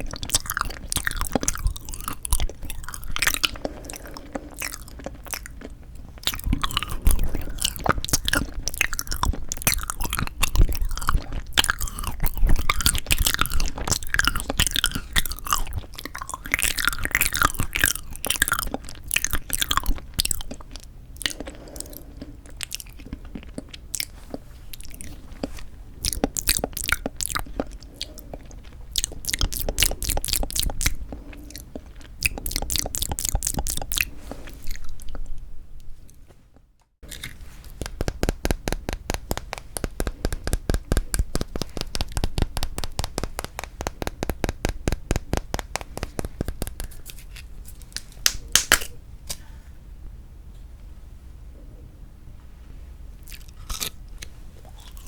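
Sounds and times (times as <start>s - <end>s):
crunching frozen jelly: 0.0s - 35.4s, 37.0s - 49.0s, 53.2s - 55.0s.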